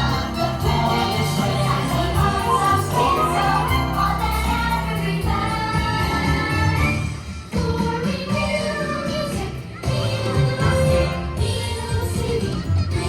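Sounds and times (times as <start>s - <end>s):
parade music with choir singing: 0.0s - 13.0s.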